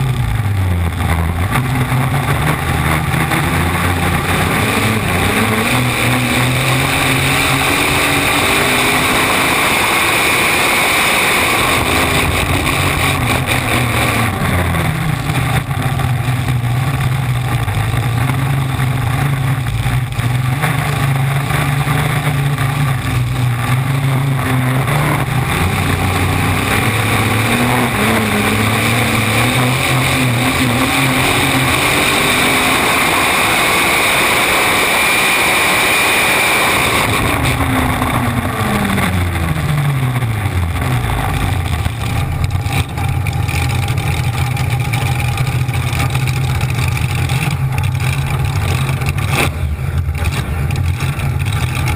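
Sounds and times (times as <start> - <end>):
boat engine running hard: 0.0 - 51.9.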